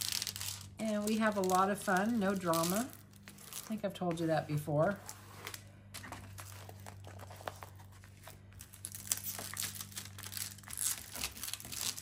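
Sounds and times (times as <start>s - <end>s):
plastic-covered canvas crinkling: 0.0s - 12.0s.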